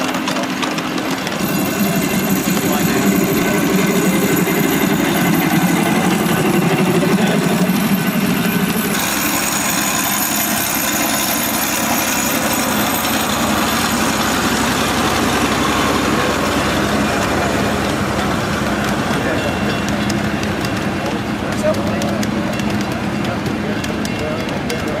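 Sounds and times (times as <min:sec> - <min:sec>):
boxcars rolling: 0:00.0 - 0:25.0
small diesel locomotive engine running: 0:00.0 - 0:25.0
small steam locomotive rattling rumble: 0:00.0 - 0:25.0.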